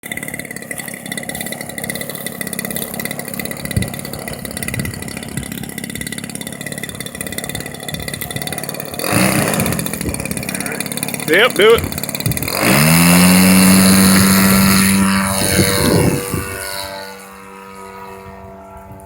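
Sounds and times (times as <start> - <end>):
model airplane engine buzzing: 0.0 - 19.0.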